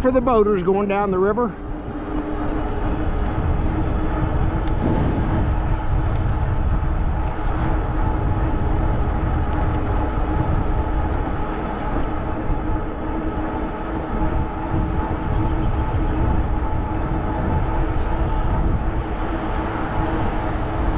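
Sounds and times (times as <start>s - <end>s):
wind rumbling on microphone: 0.0s - 20.9s
electric motor whine: 1.5s - 20.9s.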